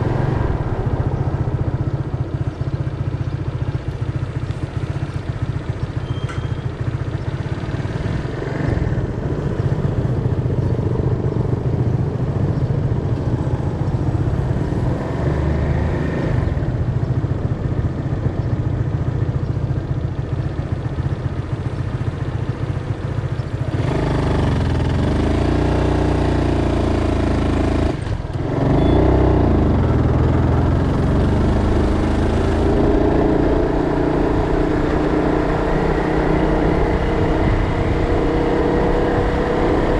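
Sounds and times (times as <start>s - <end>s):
motorbike engines rumbling: 0.0s - 39.9s
motorbikes passing close: 0.0s - 39.9s.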